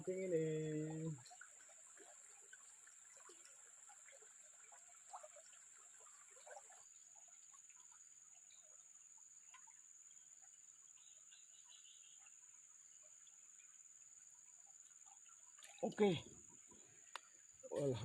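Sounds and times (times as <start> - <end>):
water trickling: 0.0 - 18.0.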